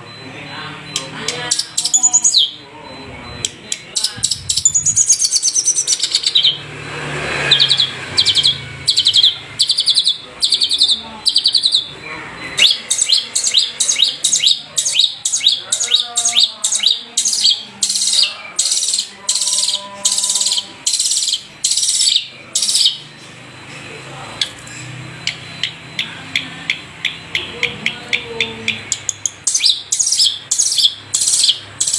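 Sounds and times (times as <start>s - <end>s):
bird singing scratchy chatter: 0.0s - 31.9s.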